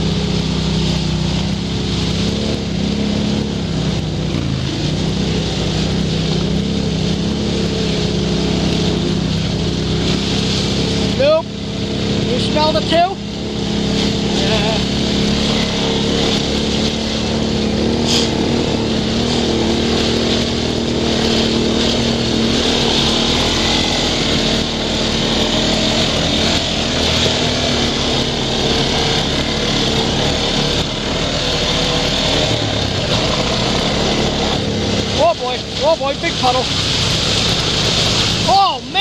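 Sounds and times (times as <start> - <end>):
atv engine running: 0.0 - 39.0
wind and tyre noise: 0.0 - 39.0.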